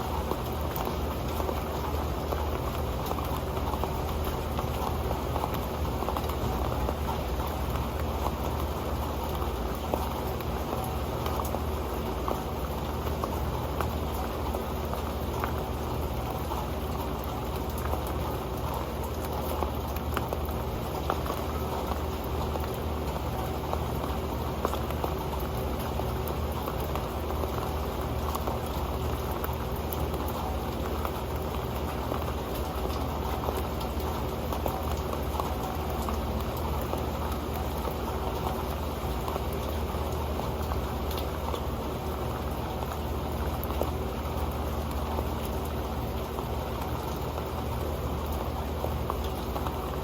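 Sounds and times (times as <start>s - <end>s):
rain pattering on metal pan: 0.0s - 50.0s.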